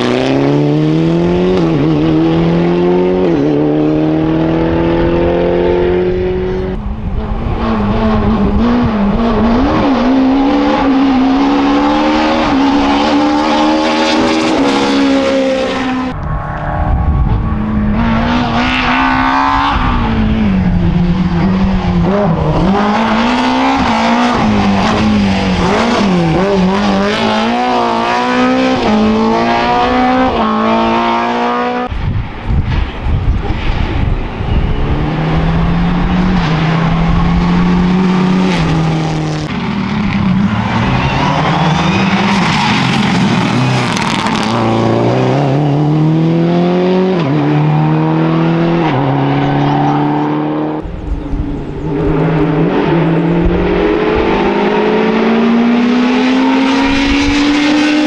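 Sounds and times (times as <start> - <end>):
rally car engine accelerating: 0.0 - 31.9, 34.4 - 58.0
rally car engine revving: 0.0 - 32.0, 32.6 - 58.0.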